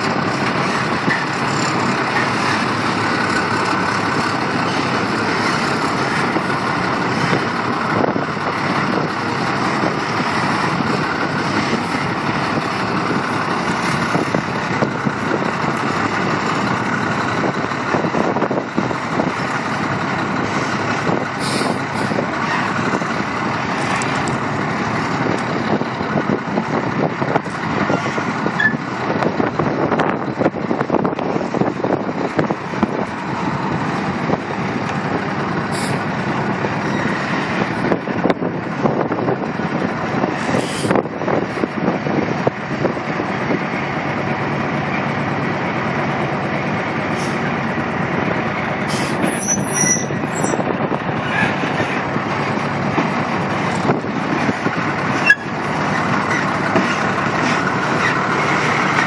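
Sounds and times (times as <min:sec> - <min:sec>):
diesel truck engine reversing: 0:00.0 - 0:59.0.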